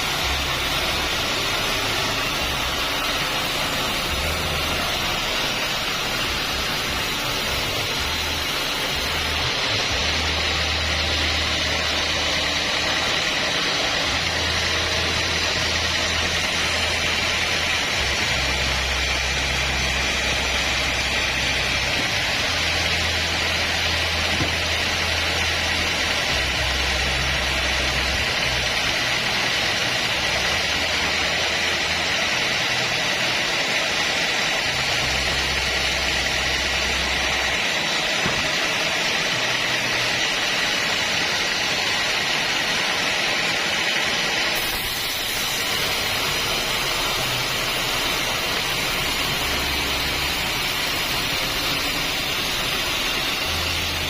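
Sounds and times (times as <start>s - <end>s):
bandsaw sawmill running: 0.0s - 54.0s.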